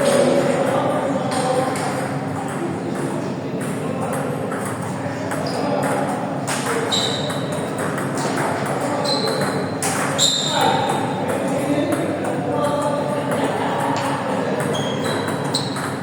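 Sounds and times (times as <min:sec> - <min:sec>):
voices chattering: 0:00.0 - 0:16.0
table tennis ball hits: 0:02.5 - 0:16.0.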